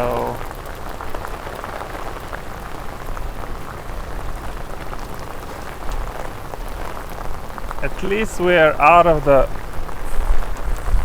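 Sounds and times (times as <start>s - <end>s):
rain falling: 0.0s - 11.0s
raindrops tapping: 0.0s - 11.0s.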